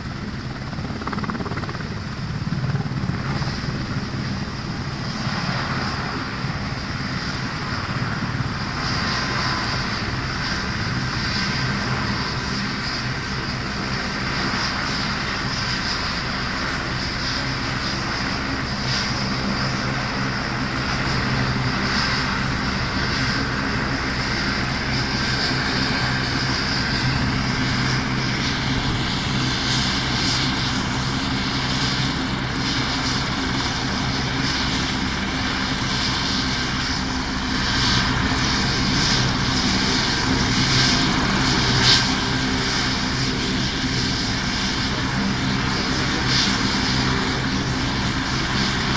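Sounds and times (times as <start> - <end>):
helicopter engines whining: 0.0 - 48.9.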